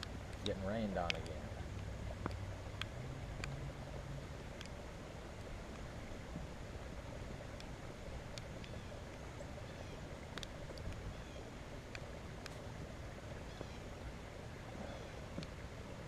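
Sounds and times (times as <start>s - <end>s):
raindrops ticking close by: 0.0s - 16.0s.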